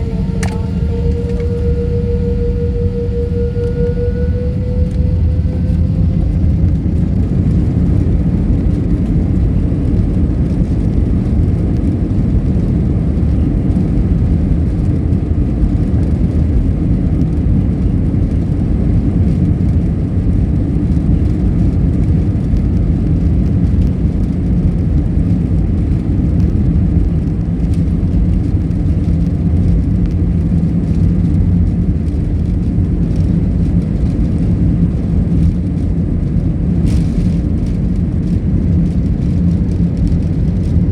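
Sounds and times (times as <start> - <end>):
jet engines roaring in cabin: 0.0 - 40.9.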